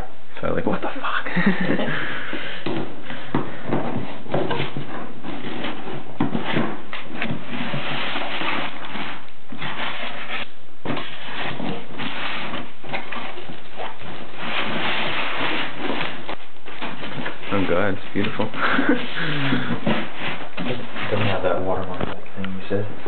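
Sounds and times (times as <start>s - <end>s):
plastic wrap handled: 1.5s - 22.8s
cardboard rubbing and scraping: 2.6s - 22.2s.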